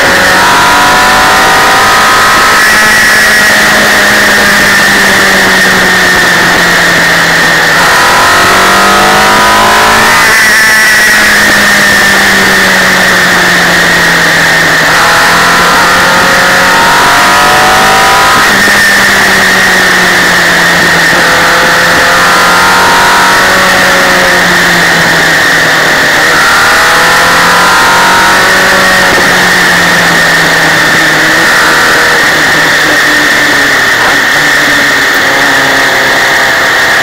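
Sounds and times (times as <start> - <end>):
motorcycle engine accelerating: 0.0 - 37.0
wind and road noise: 0.0 - 37.0.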